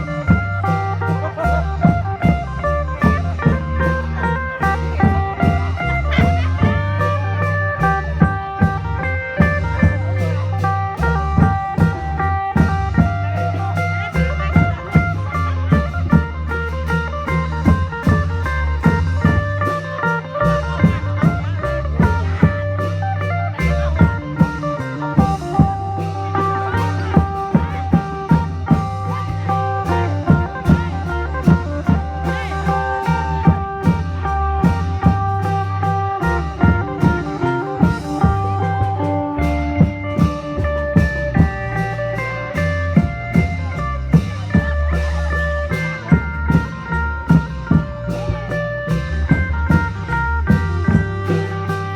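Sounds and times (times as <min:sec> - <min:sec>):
drum beats: 0:00.0 - 0:51.9.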